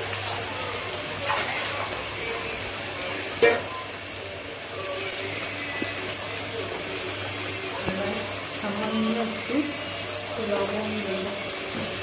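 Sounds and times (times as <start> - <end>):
onion and potato frying in oil: 0.0 - 12.0.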